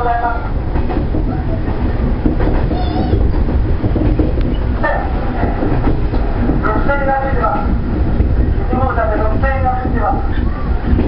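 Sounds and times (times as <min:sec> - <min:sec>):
electric train rumbling on rails: 0:00.0 - 0:11.0.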